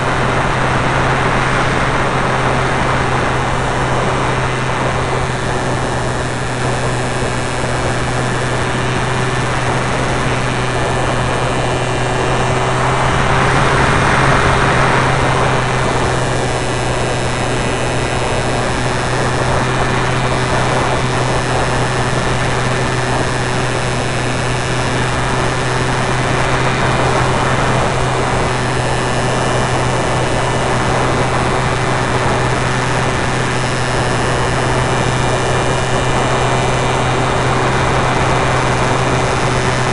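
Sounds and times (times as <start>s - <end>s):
model airplane motor humming: 0.0s - 39.9s
rushing airflow: 0.0s - 39.9s.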